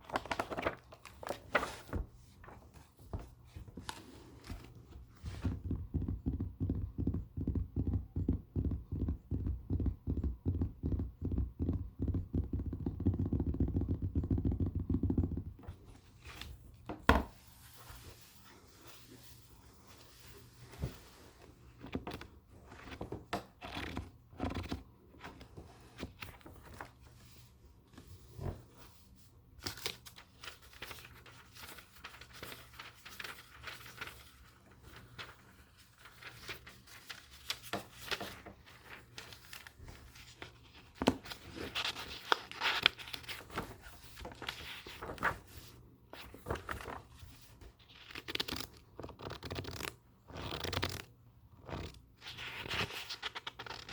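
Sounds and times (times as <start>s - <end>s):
book pages rustling: 0.0s - 53.9s.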